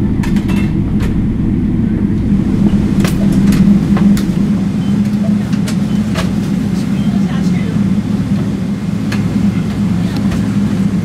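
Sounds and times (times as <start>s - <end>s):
airplane cabin rumble and hum: 0.0s - 11.0s.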